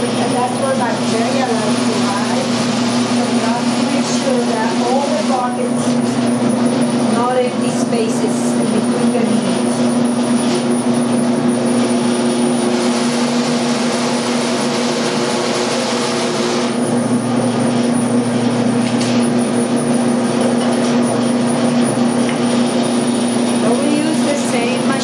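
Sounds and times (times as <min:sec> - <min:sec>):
meat grinder motor humming: 0:00.0 - 0:25.0.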